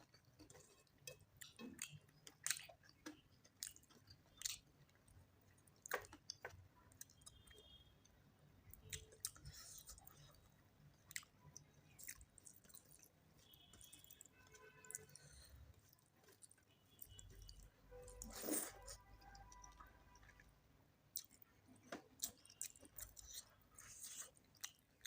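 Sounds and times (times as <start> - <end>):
person chewing food: 0.0 - 7.8, 8.7 - 20.4, 21.1 - 25.0.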